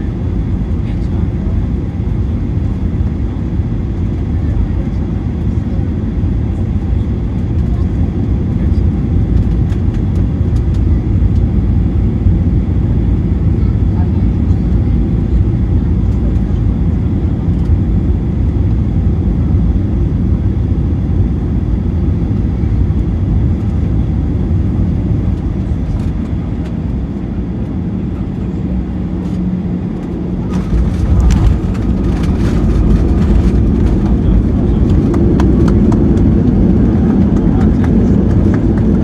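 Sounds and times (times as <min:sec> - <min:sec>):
jet engines rumbling: 0:00.0 - 0:39.0.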